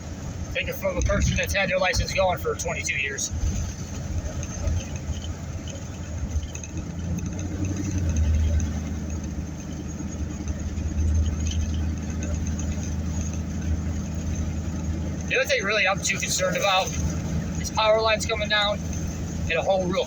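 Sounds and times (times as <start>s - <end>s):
car interior engine and road rumble: 0.0s - 20.0s.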